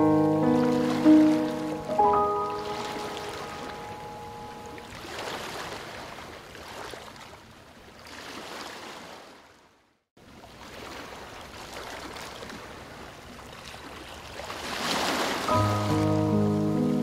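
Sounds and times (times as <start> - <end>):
rushing water: 0.0 - 9.6, 10.2 - 17.0.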